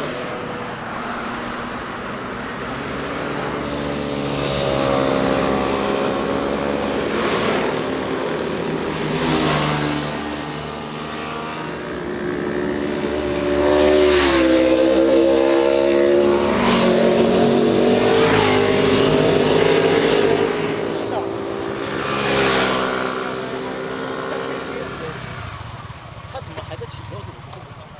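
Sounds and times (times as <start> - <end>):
motorcycle engines revving past: 0.0 - 27.9.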